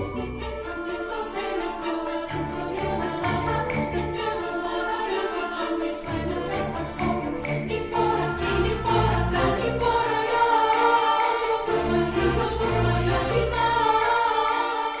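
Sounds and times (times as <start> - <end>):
choir singing held notes: 0.0 - 15.0
low orchestral accompaniment: 0.0 - 15.0.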